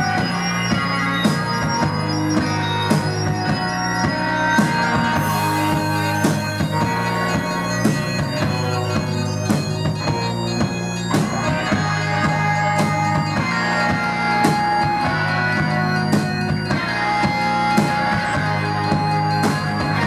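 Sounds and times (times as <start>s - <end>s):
trumpet: 0.0s - 16.1s
bass: 0.0s - 20.0s
drums: 0.0s - 20.0s
electric guitars: 0.0s - 20.0s
keyboard chords: 0.0s - 20.0s.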